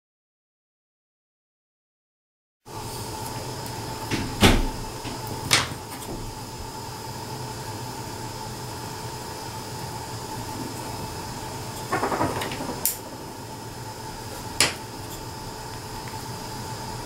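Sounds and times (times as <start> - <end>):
background hum: 2.7 - 17.0.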